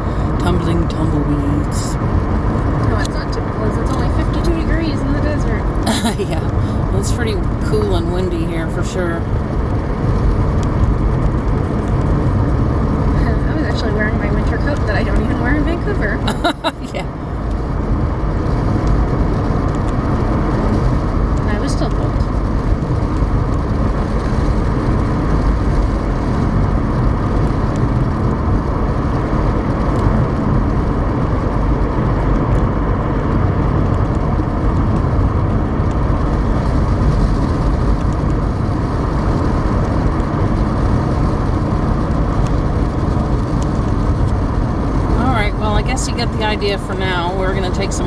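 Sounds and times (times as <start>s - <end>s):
road and engine noise inside car: 0.0s - 48.0s.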